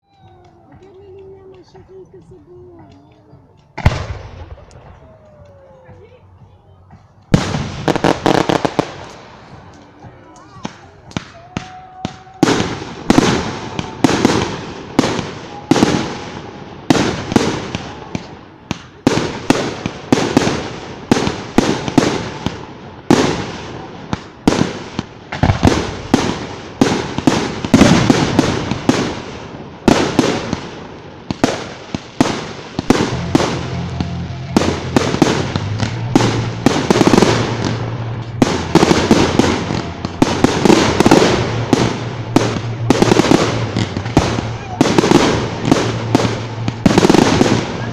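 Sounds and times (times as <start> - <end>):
fireworks bangs echoing: 2.8 - 5.1, 6.9 - 47.9.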